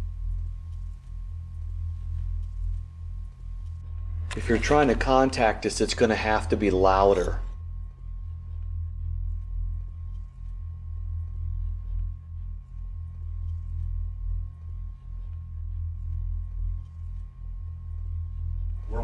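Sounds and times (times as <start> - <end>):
low rumble: 0.0 - 19.0
faint ticks: 0.2 - 4.4, 7.5 - 19.0.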